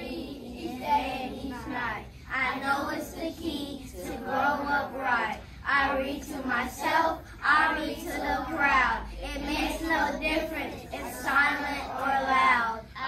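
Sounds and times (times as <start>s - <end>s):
children reciting in unison: 0.0s - 13.0s.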